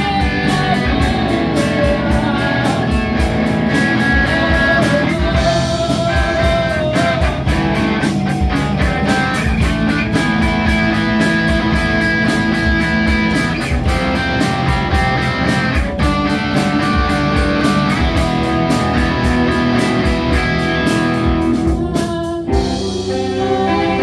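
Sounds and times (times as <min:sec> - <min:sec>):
live rock band playing: 0:00.0 - 0:24.0.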